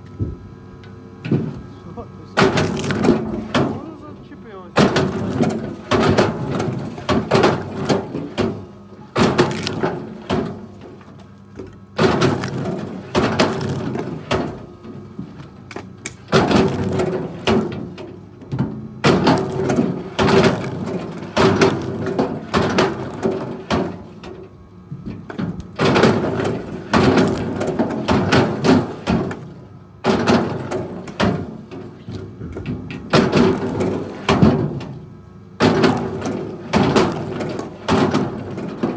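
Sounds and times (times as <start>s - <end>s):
engine humming: 0.0s - 38.9s
wood cracking and splintering: 2.4s - 4.1s, 4.8s - 24.3s, 25.1s - 32.4s, 33.1s - 38.9s.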